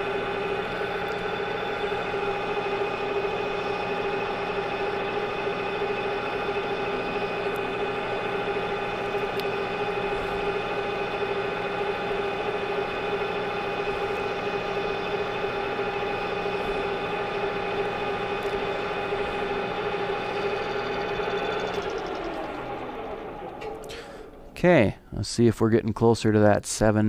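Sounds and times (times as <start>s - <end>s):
metal lathe whining: 0.0s - 24.6s.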